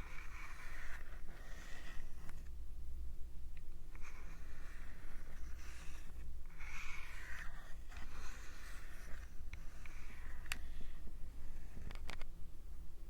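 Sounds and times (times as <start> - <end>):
rubbing and brushing on microphone: 0.0 - 2.5, 3.9 - 12.2.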